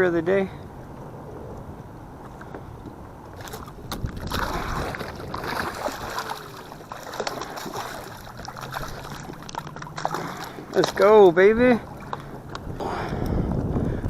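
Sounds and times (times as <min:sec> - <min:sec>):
water sloshing and splashing: 0:02.2 - 0:14.0.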